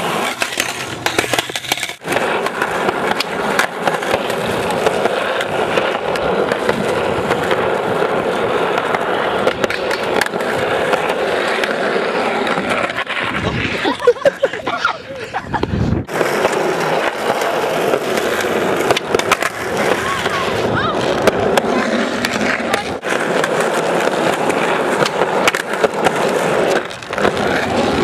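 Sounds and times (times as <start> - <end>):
skateboard clacks: 0.0 - 14.7, 15.6 - 28.0
skateboard wheels rolling on asphalt: 0.0 - 28.0.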